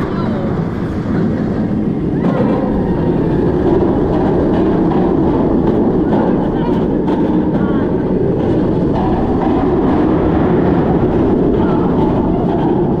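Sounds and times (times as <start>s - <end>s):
wheels rumbling on steel track: 0.0s - 13.0s
wind roar on microphone: 0.0s - 13.0s.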